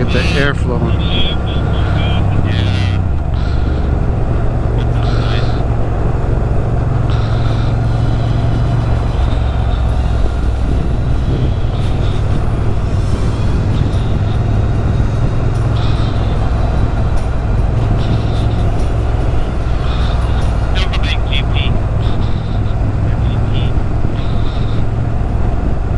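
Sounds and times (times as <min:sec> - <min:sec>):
motorcycle engine running: 0:00.0 - 0:25.9
wind rushing over microphone: 0:00.0 - 0:25.9.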